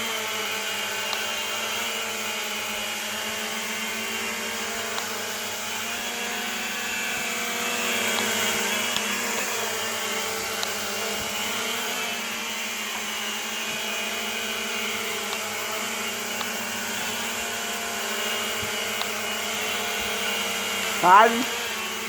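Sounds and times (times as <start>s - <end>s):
quadcopter propellers buzzing: 0.0s - 22.0s.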